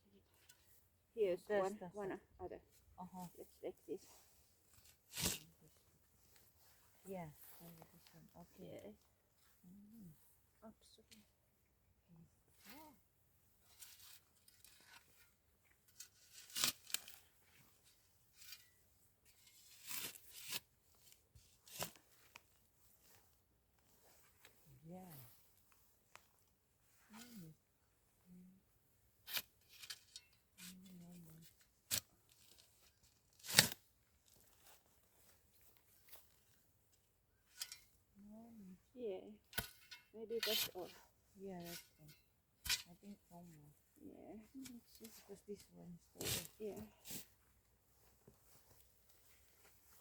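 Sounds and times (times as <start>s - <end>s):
faint rustling: 0.2s - 11.3s, 12.5s - 50.0s.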